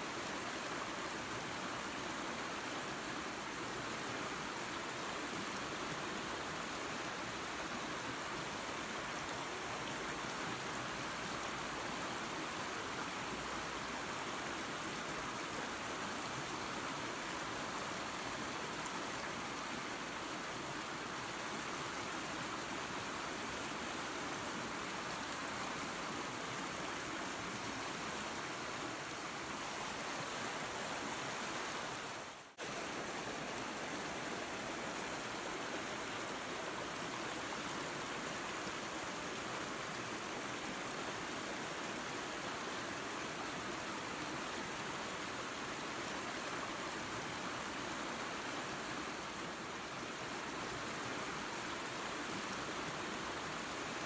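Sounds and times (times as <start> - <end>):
waterfall and creek water rushing: 0.0 - 54.0.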